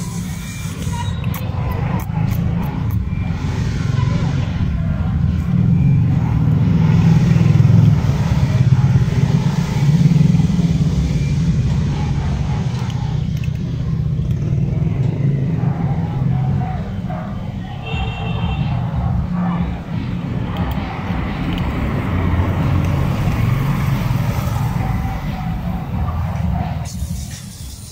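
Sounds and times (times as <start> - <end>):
vehicle engine rumble: 0.0 - 27.9.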